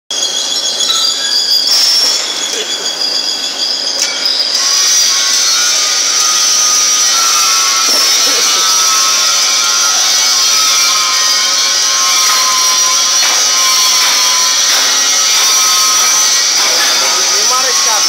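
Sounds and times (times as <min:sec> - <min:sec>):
high-pitched squealing tones: 0:00.1 - 0:18.0
welding arc hissing: 0:00.2 - 0:18.0.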